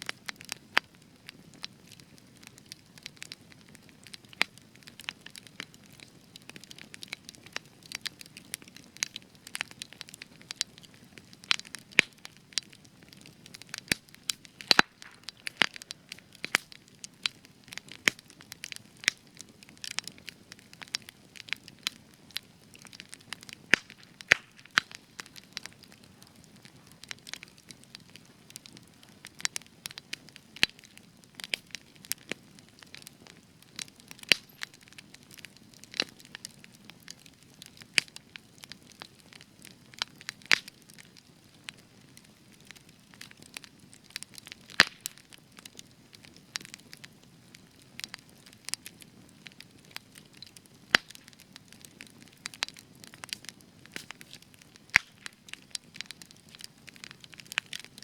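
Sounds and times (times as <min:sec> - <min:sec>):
campfire pops and snaps: 0:00.0 - 0:58.0
low hiss of burning: 0:00.0 - 0:58.0.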